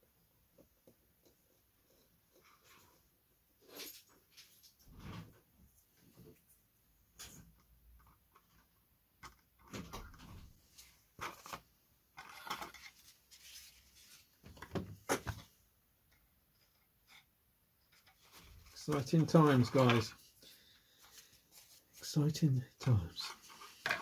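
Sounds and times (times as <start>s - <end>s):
soft rustles of model parts: 0.1s - 24.0s.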